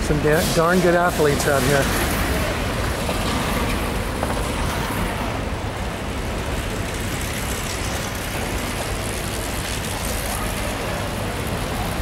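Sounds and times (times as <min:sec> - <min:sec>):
bikes circling on wooden track: 0:00.0 - 0:12.0.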